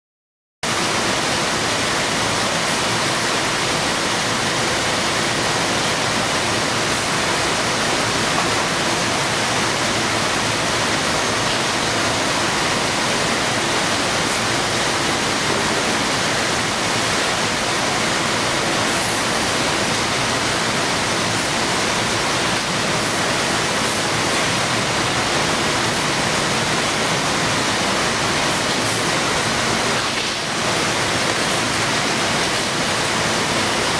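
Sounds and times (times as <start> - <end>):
conveyor machinery running: 0.6 - 33.9
rush of air from fans: 0.7 - 33.9.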